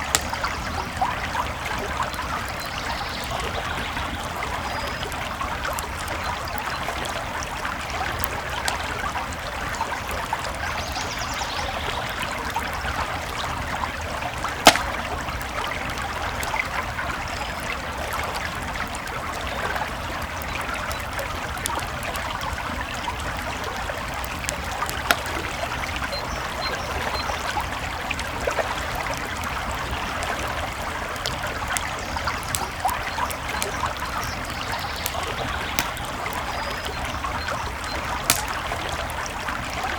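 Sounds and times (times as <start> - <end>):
campfire crackling and popping: 0.0 - 10.8, 12.1 - 39.9
creek flowing over stones: 0.0 - 39.9.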